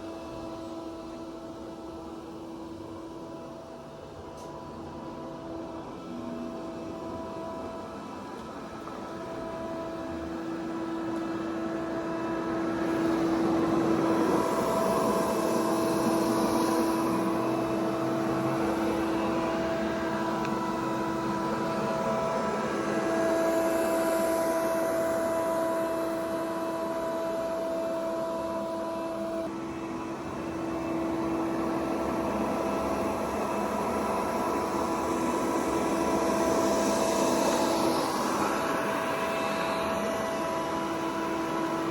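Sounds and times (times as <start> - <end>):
robot vacuum cleaner running: 0.0 - 41.9.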